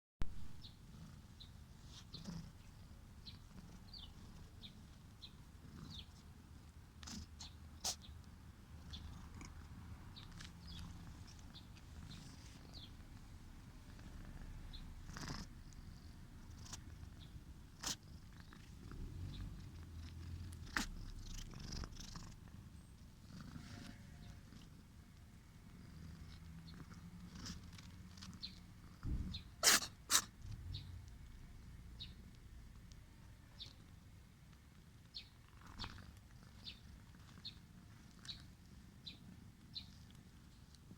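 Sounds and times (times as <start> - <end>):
cat purring: 0.6 - 40.9.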